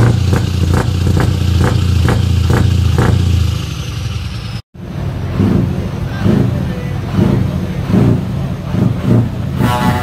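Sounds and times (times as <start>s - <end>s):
truck engine droning with pops: 0.0s - 10.0s.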